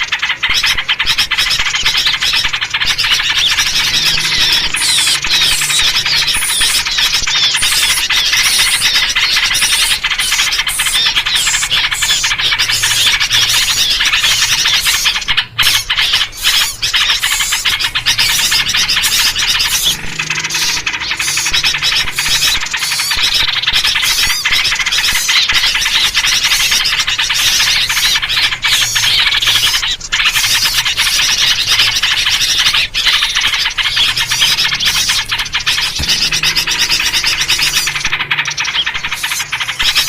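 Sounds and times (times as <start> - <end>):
many small birds chirping: 0.0 - 40.0.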